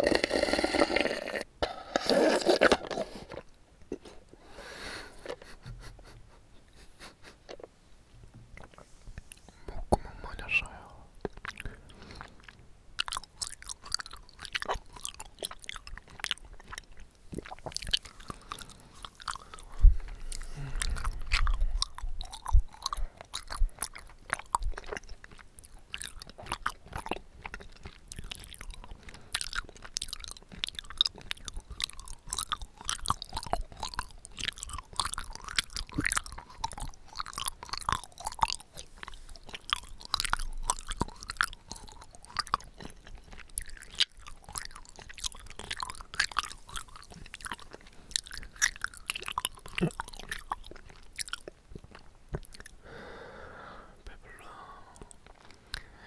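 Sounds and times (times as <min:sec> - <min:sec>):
chewing tapioca pearls: 0:00.0 - 0:05.9, 0:08.5 - 0:56.0.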